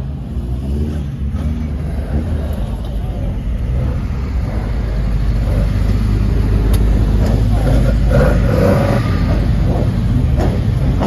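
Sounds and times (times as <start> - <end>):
racing car engines rumbling: 0.0 - 11.0.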